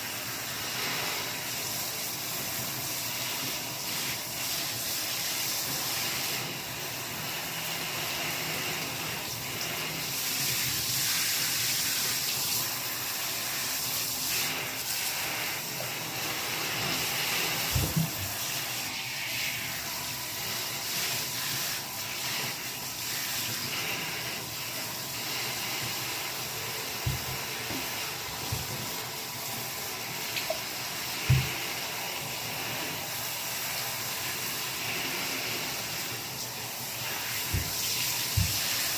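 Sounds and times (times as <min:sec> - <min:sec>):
steady rushing hiss: 0:00.0 - 0:38.9.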